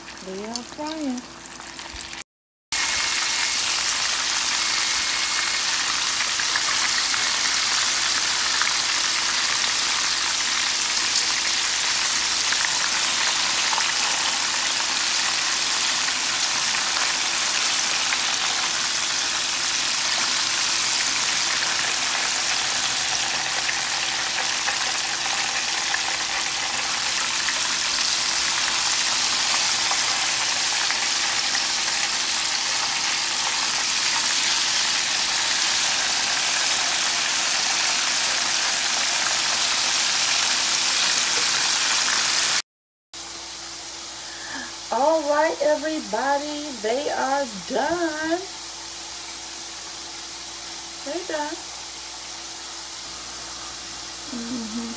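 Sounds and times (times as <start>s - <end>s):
chicken deep-frying in oil: 0.0s - 2.2s, 2.8s - 42.6s, 48.0s - 54.9s.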